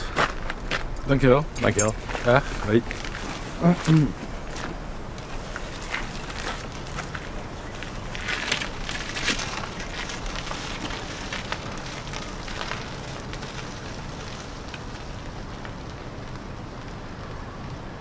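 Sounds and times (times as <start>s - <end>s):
crunching footsteps: 0.0s - 17.8s
steady hiss: 0.0s - 18.0s.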